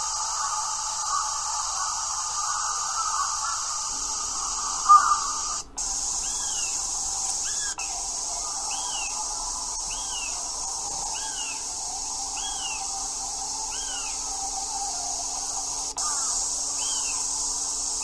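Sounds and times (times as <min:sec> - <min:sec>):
bird calling: 0:00.0 - 0:17.6
steady high hiss: 0:00.0 - 0:18.0.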